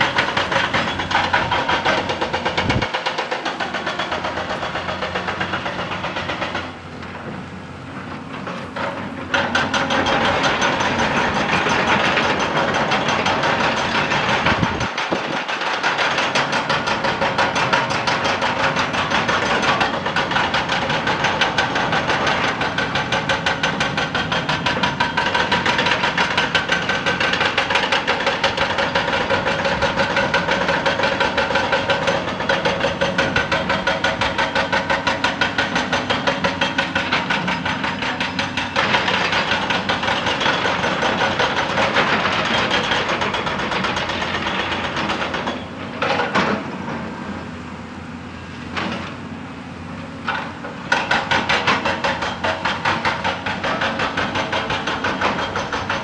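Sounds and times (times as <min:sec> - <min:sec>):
hydraulic breaker hammering rock: 0:00.0 - 0:47.5, 0:50.2 - 0:56.0.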